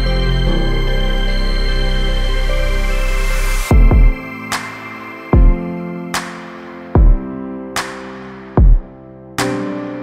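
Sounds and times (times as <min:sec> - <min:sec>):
synth background music: 0:00.0 - 0:10.0.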